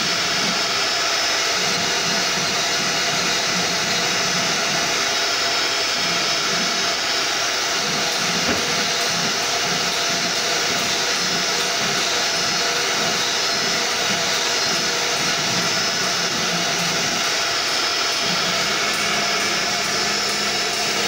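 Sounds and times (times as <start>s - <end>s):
router spindle cutting wood: 0.0s - 21.0s.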